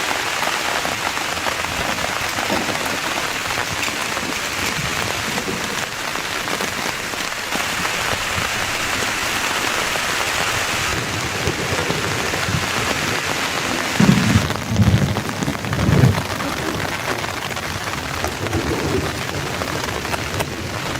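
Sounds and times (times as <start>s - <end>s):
heavy rain falling: 0.0s - 20.9s
thunder rumbling: 0.0s - 20.9s.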